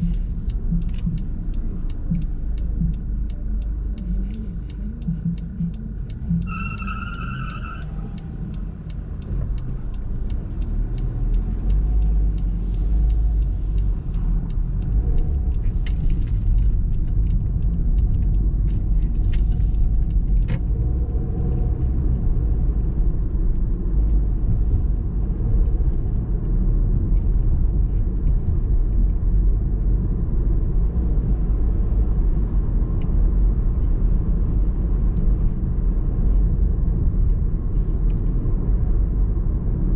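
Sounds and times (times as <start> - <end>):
car engine and road rumble: 0.0 - 39.9
turn signal ticking: 0.0 - 39.9.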